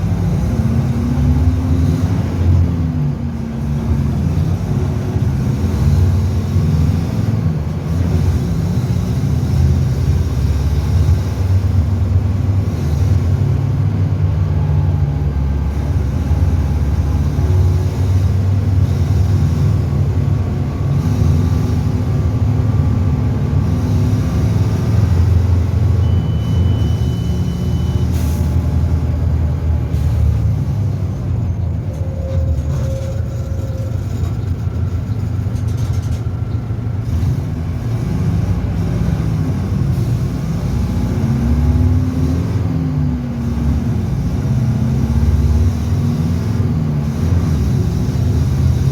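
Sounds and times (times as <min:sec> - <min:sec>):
bus diesel engine running: 0:00.0 - 0:48.9.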